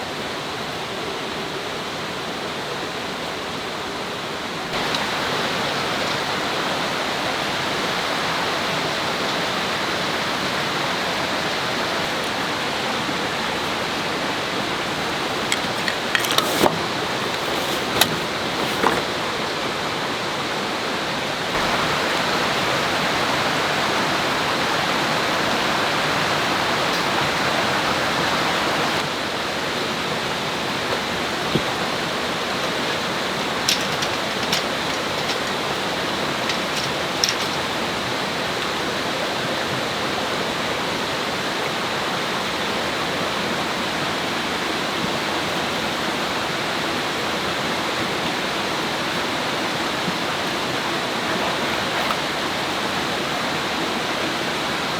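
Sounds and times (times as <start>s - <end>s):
river rushing: 0.0s - 54.9s.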